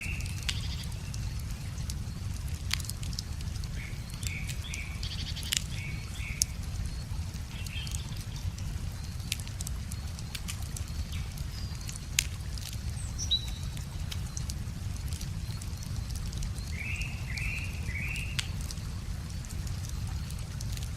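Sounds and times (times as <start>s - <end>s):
bonfire crackling and popping: 0.0s - 20.9s.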